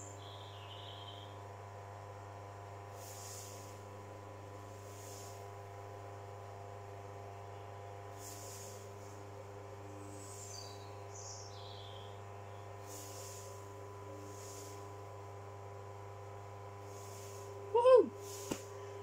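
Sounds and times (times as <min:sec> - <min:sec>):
potter's wheel motor hum: 0:01.3 - 0:19.0.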